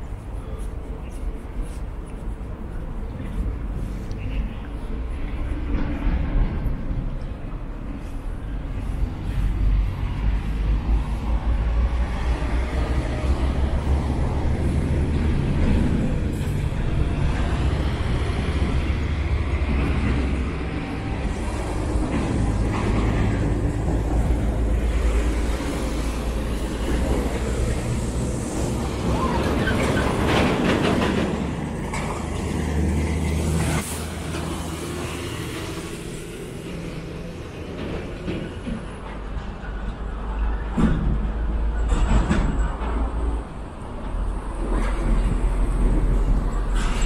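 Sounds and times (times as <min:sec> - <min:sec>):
truck engines rumbling: 0:00.0 - 0:47.0
tanker lorry driving past: 0:04.9 - 0:47.0.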